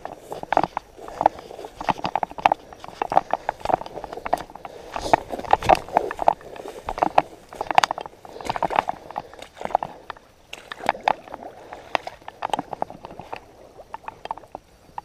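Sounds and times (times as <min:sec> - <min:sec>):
boots wading through muddy water: 0:00.0 - 0:14.7.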